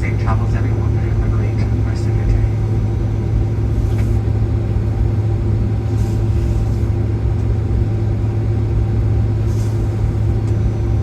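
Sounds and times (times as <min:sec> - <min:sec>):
aircraft cabin engine hum: 0:00.0 - 0:11.0.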